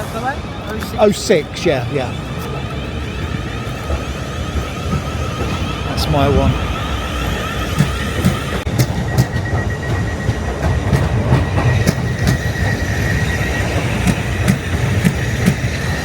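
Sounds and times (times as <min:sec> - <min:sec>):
faint high wheel squeal: 0:00.0 - 0:16.0
train rumbling: 0:00.0 - 0:16.0
wheels clacking over rail joints: 0:02.1 - 0:16.0.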